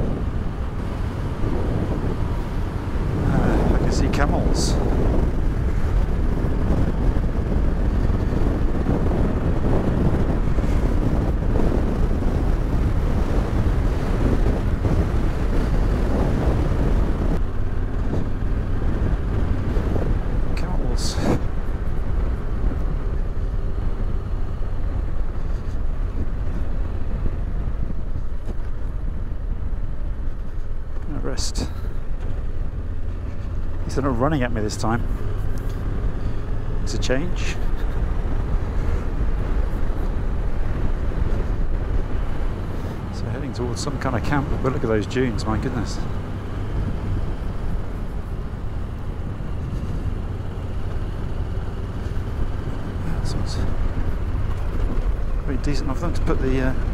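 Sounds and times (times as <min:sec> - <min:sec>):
motorcycle engine running: 0:00.0 - 0:56.9
wind rumble on microphone: 0:00.0 - 0:56.9.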